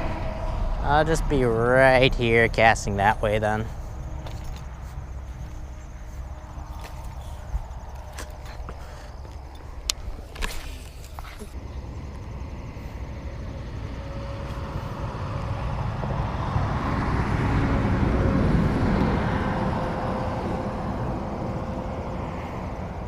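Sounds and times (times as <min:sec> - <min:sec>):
engine passing: 0:00.0 - 0:23.0.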